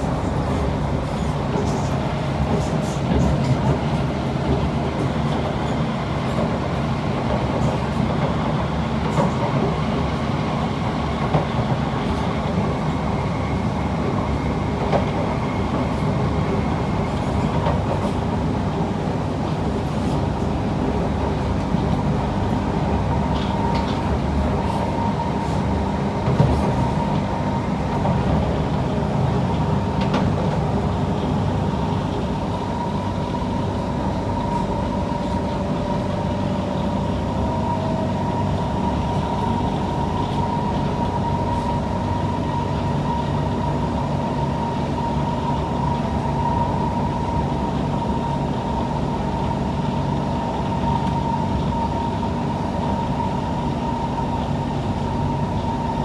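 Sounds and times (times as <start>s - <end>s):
metro train rumbling: 0.0s - 56.0s.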